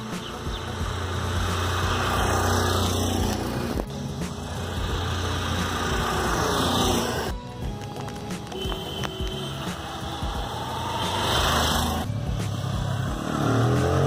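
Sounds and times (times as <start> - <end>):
motorcycle riding past: 0.0 - 7.3, 9.8 - 14.0.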